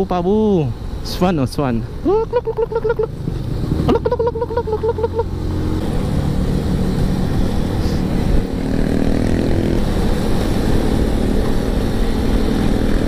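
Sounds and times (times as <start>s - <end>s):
motorcycle engine running: 2.1s - 13.0s.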